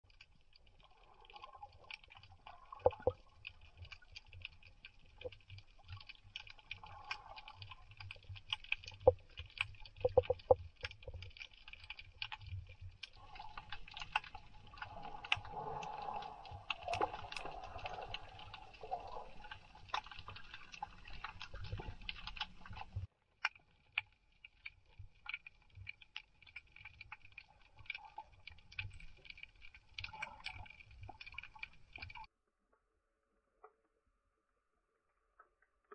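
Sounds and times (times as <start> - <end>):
sharp underwater clicks and crackles: 0.0 - 32.9, 34.8 - 35.9
low rumble of water movement: 0.0 - 35.9.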